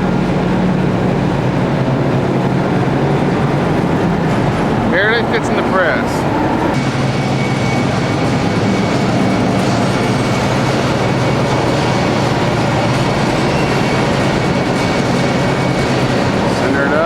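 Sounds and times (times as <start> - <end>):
constant low hum: 0.0 - 17.0
loud machinery noise: 0.0 - 17.0.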